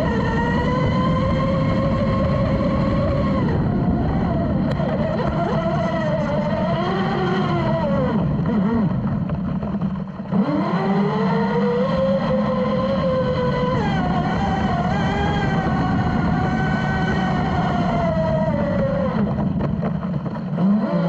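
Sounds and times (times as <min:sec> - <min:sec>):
electric speedboat motor running: 0:00.0 - 0:21.0.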